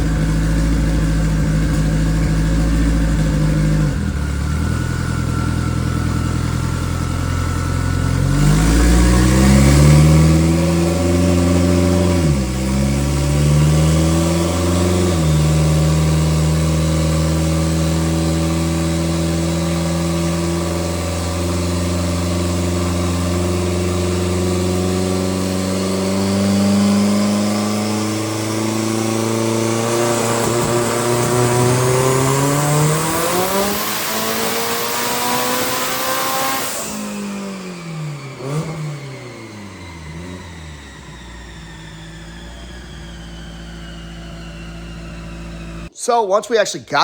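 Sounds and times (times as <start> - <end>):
race car engine revving: 0.0 - 46.0
turbo whine: 0.0 - 46.0.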